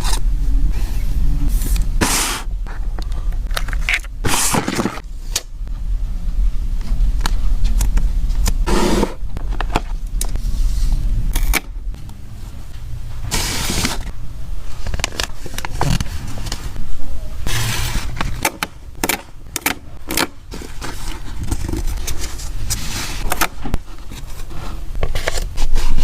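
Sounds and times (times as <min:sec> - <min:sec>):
rustling and scraping of materials: 0:00.0 - 0:19.3, 0:19.9 - 0:26.0
steady low rumble: 0:00.0 - 0:26.0.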